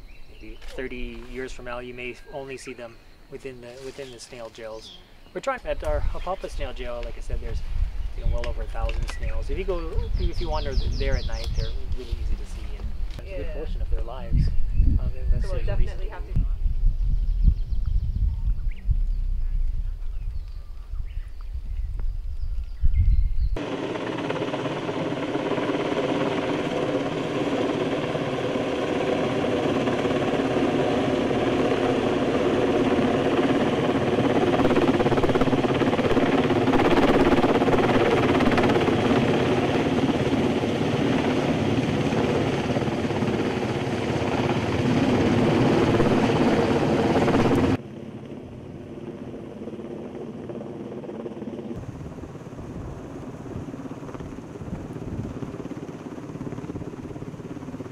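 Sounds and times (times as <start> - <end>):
helicopter rotor and engines: 0.0 - 57.9.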